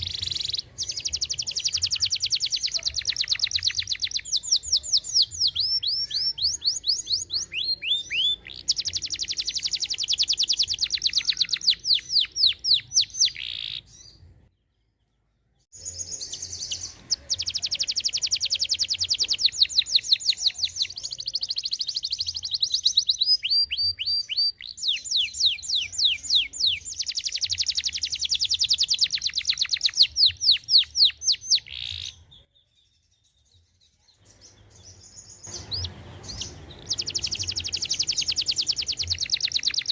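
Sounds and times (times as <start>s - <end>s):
canary singing trills: 0.0s - 14.5s, 15.7s - 39.9s.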